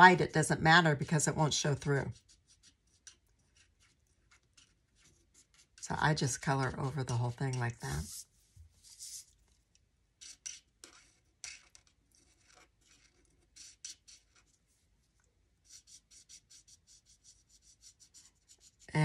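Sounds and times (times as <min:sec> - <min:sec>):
marker scratching across paper: 0:00.0 - 0:09.6, 0:10.2 - 0:19.0.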